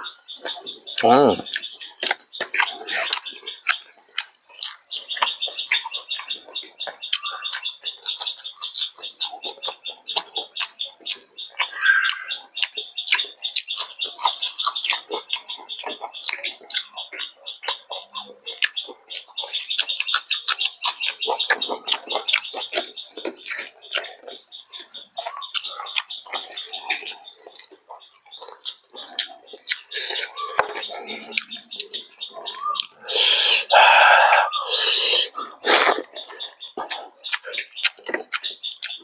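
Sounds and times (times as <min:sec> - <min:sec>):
high rapid chirping: 0:00.0 - 0:39.0
wet chewing and lip smacks: 0:00.0 - 0:39.0.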